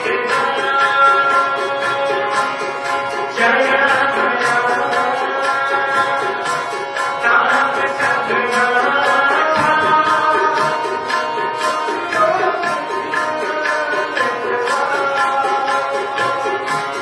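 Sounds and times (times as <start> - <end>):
harmonium chords: 0.0 - 17.0
tabla drumming: 0.0 - 17.0.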